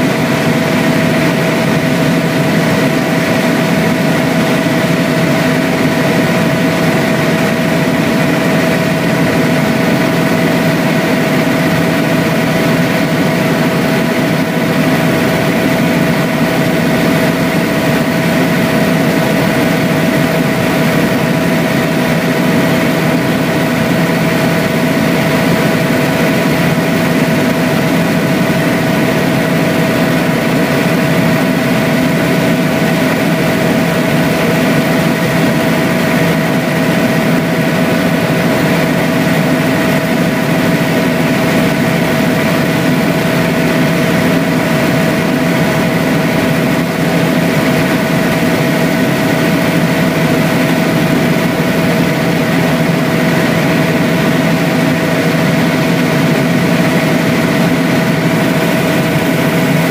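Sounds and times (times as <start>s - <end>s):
helicopter engine and rotors drone: 0.0s - 59.9s.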